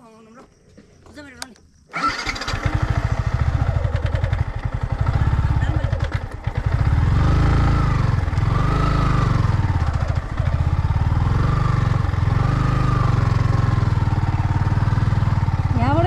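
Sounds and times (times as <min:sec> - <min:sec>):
motorcycle engine running: 0:02.0 - 0:16.0.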